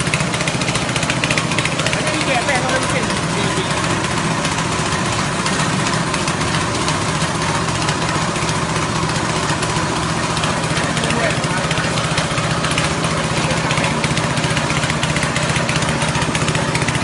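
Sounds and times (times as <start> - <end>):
grinding machine: 0.0 - 17.0
small petrol engine running: 0.0 - 17.0.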